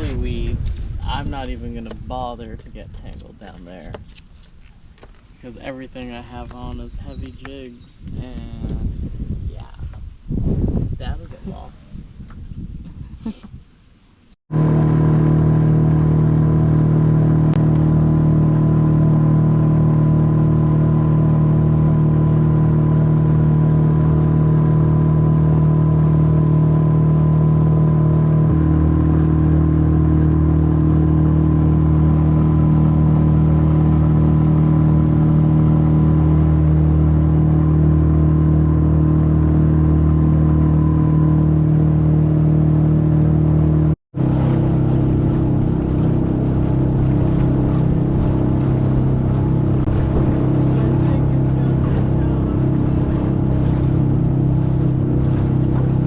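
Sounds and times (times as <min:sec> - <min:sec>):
outboard motor running: 0:00.0 - 0:09.0, 0:14.5 - 0:56.0.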